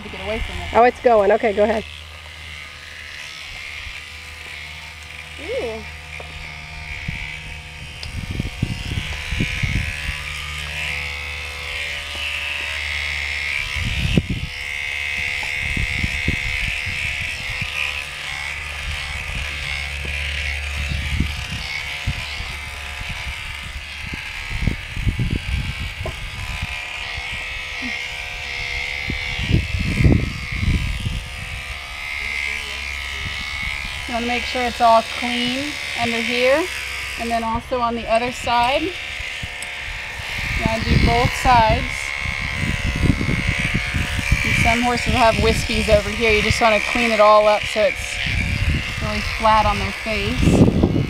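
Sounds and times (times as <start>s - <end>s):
electric clippers buzzing: 0.0s - 51.0s.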